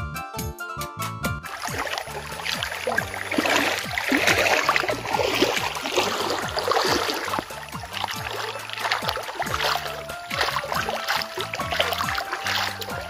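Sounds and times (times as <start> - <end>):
legs wading through stream: 1.4 - 13.0.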